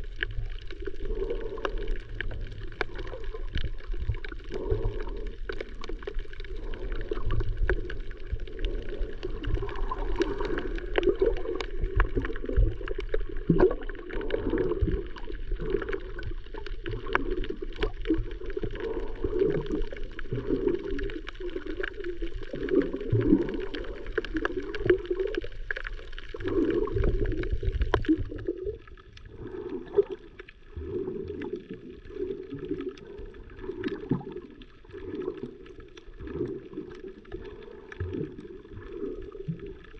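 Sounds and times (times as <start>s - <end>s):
muffled underwater sloshing: 0.0s - 39.9s.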